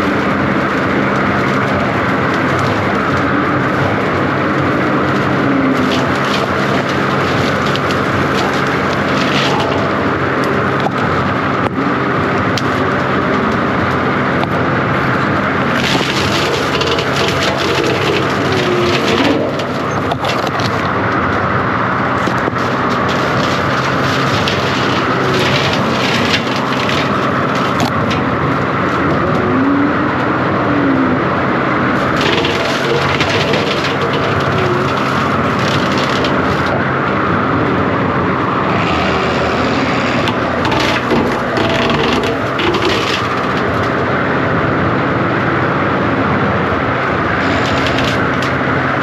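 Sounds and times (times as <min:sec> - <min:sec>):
hydraulic whine: 0:00.0 - 0:49.0
track loader engine running: 0:00.0 - 0:49.0.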